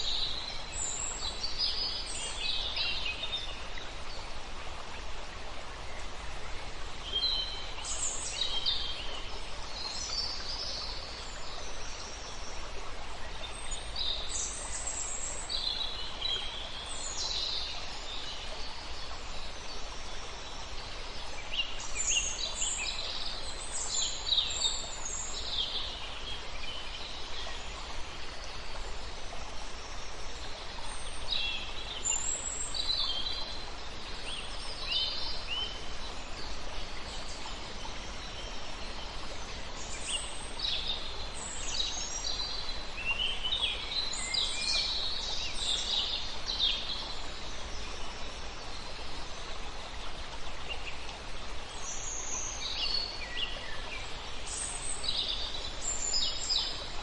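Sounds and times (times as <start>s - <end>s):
songbirds singing: 5.8s - 49.6s, 50.2s - 57.0s.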